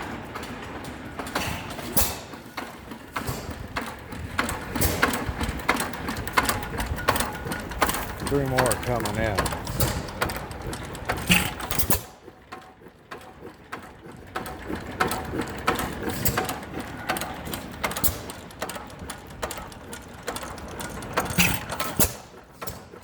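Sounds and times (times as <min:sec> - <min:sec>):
old stationary engines running: 0:00.0 - 0:23.0
mechanical clicking and ticking: 0:02.6 - 0:23.0.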